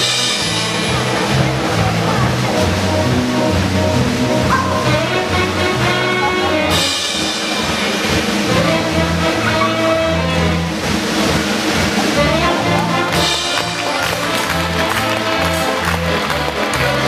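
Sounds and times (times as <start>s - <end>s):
band music with bass line: 0.0s - 17.0s.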